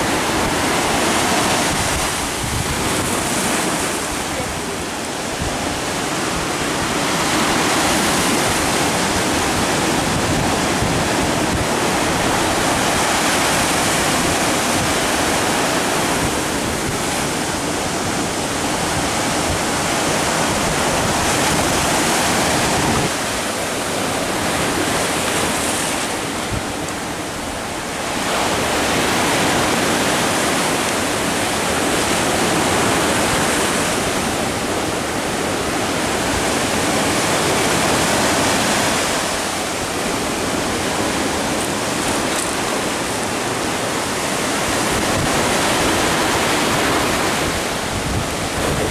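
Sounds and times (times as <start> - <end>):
sea surf breaking on shore: 0.0 - 48.9.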